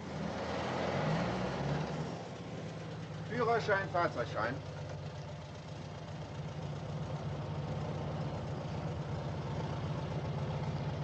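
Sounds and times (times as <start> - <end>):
vehicle engine idling: 2.1 - 11.0.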